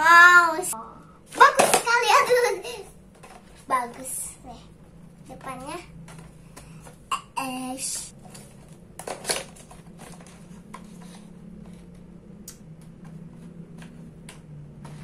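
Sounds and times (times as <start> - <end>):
steady low hum: 2.4 - 15.0.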